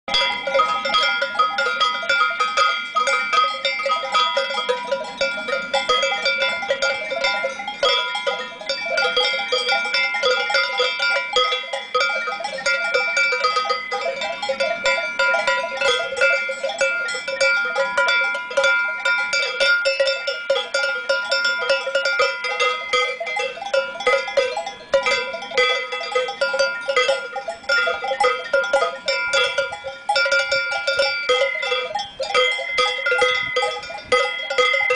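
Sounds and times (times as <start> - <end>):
cowbells clanking: 0.1 - 34.9.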